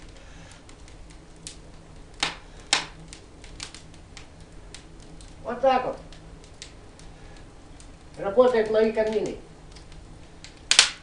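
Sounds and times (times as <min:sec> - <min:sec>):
firewood crackling and popping: 0:00.0 - 0:11.0.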